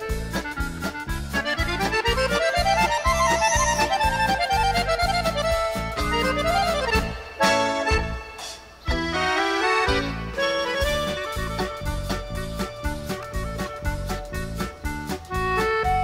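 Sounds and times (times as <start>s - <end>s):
instrumental background music: 0.0s - 16.0s.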